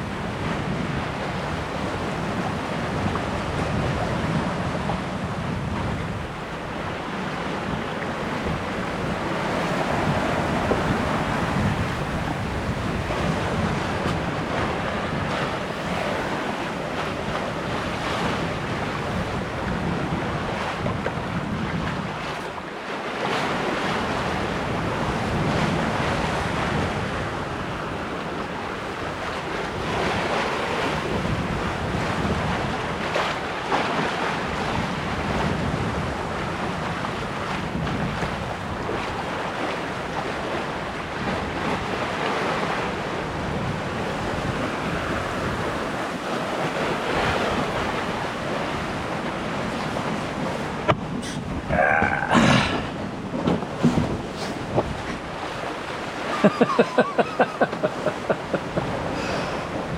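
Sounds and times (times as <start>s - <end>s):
wind buffeting microphone: 0.0s - 22.6s, 23.3s - 59.9s
waves washing past boat: 0.0s - 59.9s.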